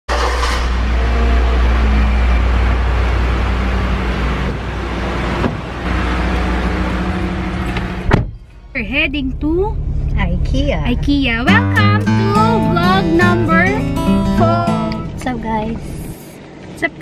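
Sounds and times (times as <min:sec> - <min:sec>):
car engine idling: 0:00.1 - 0:16.6.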